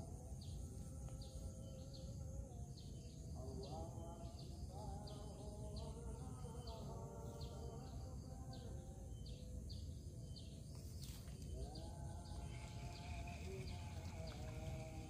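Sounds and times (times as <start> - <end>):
bird chirping: 0.0 - 15.0
insect drone: 0.0 - 15.0.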